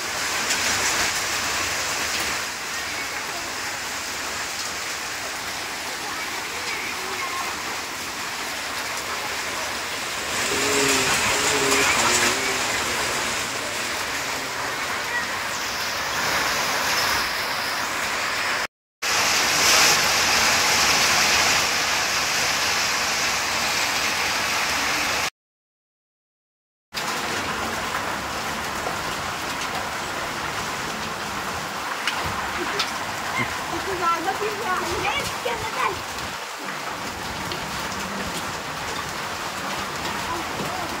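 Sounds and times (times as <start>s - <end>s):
heavy rain pouring: 0.0s - 25.3s, 27.0s - 41.0s.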